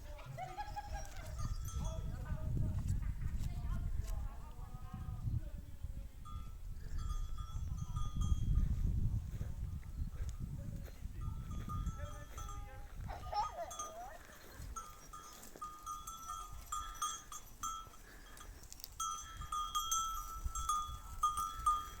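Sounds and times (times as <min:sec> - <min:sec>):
sheep bells clanking: 0:00.3 - 0:02.5, 0:06.2 - 0:22.0.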